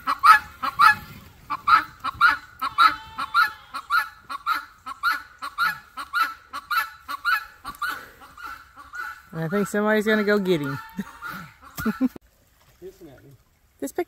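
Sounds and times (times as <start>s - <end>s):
guineafowl calling harshly: 0.0s - 12.2s.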